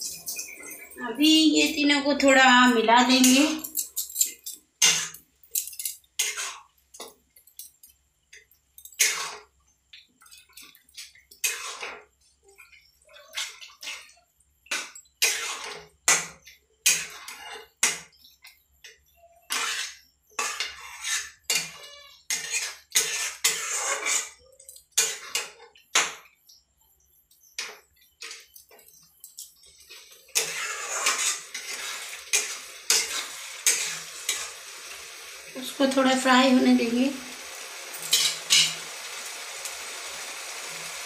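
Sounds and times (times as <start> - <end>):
spatula scraping a pan: 0.0 - 3.6, 4.8 - 5.3, 6.2 - 6.8, 8.9 - 9.6, 10.2 - 26.4, 27.1 - 39.9
masala sizzling: 0.0 - 41.0.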